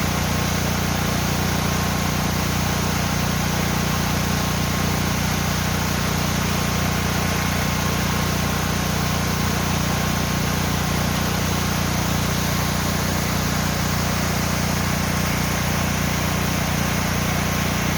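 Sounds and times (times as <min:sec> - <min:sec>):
waterfall pouring into pool: 0:00.0 - 0:17.9.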